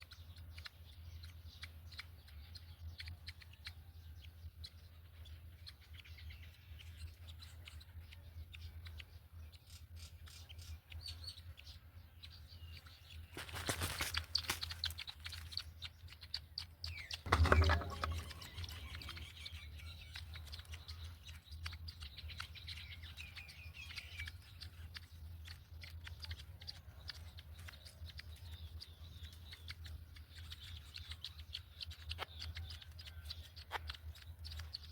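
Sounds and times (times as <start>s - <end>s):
faint bird chirps and clicks: 0.0s - 34.9s.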